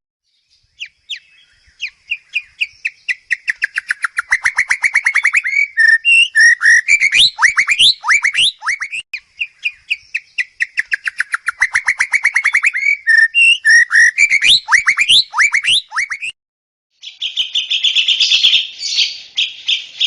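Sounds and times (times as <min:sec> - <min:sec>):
songbird singing: 0:00.2 - 0:16.4, 0:17.0 - 0:20.0.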